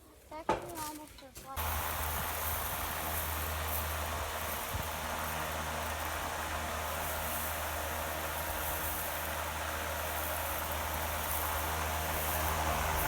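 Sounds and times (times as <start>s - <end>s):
electric fan motor hum: 1.6s - 13.0s.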